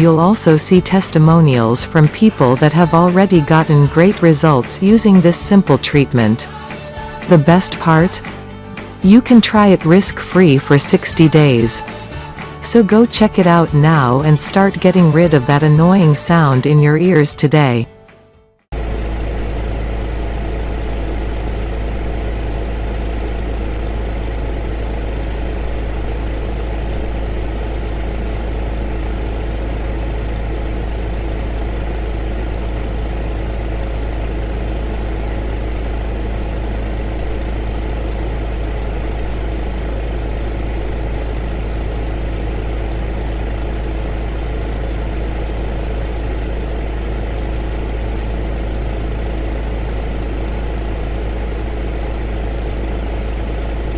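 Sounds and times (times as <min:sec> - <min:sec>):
heater whirring: 0:00.0 - 0:53.9.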